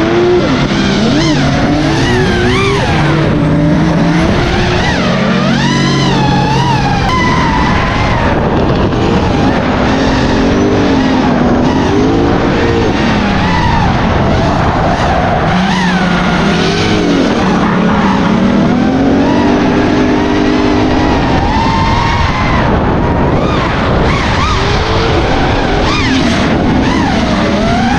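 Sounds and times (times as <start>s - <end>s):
car engines revving: 0.0s - 27.9s.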